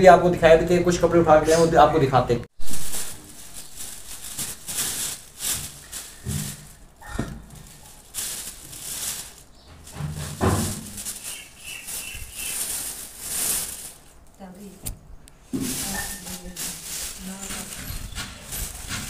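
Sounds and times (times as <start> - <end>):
plastic bag rustling: 2.6 - 19.0.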